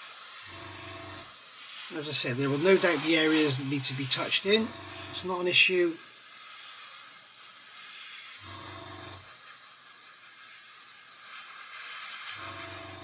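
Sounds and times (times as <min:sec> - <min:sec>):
airbrush hissing: 0:00.0 - 0:13.0.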